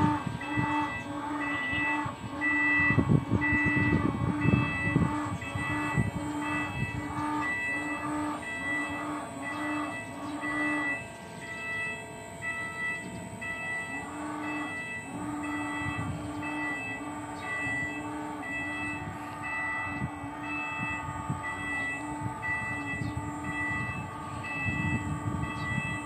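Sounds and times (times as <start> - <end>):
electronic alarm tones: 0.0 - 26.0
low mechanical noise: 0.0 - 26.0.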